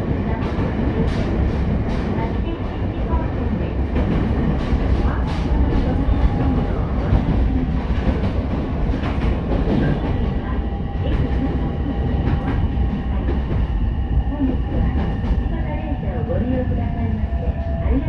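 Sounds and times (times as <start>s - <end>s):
train interior low rumble: 0.0s - 18.0s.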